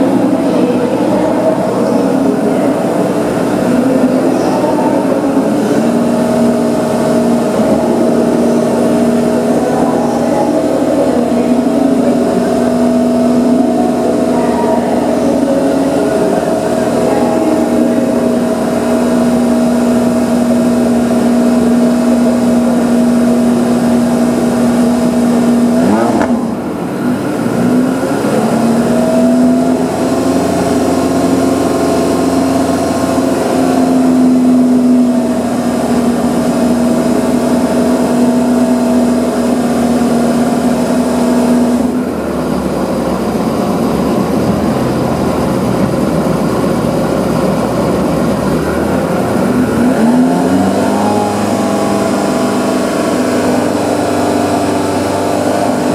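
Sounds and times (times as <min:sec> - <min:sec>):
sports car engine revving: 0:00.0 - 0:55.9.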